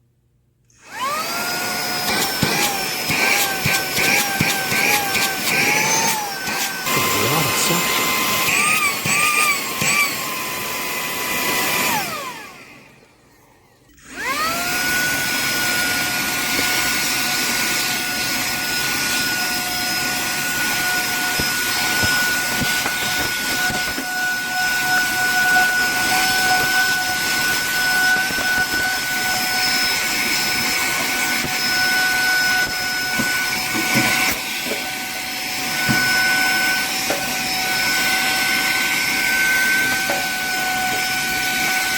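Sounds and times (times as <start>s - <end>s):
mini vacuum motor whine: 0.8s - 41.9s.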